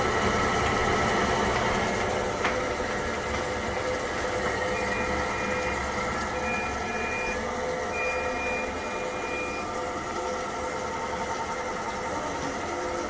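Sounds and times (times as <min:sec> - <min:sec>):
appliance fan humming: 0:00.0 - 0:13.0.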